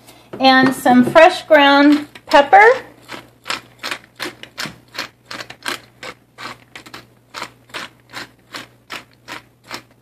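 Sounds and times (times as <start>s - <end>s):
pepper mill grinding: 1.8s - 10.0s.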